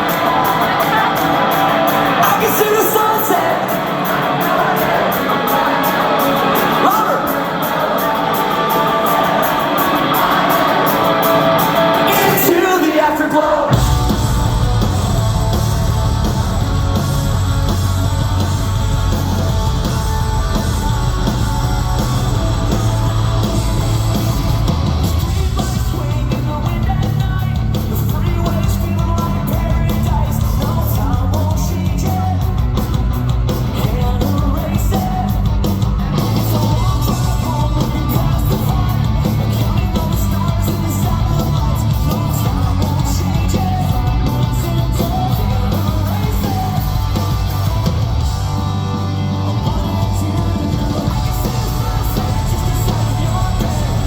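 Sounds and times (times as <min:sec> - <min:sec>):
guitar line: 0:00.0 - 0:54.0
heavy drums: 0:00.0 - 0:54.0
rock band playing live: 0:00.0 - 0:54.0
vocals: 0:00.0 - 0:54.0.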